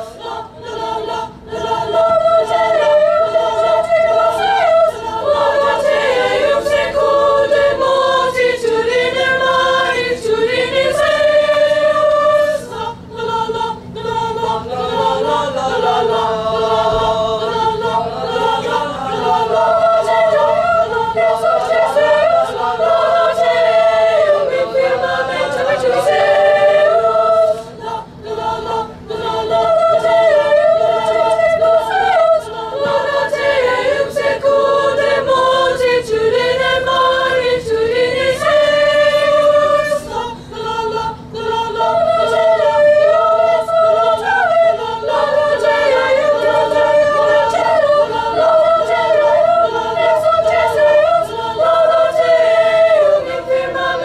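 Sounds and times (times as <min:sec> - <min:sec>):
choir singing held notes: 0:00.0 - 0:54.0.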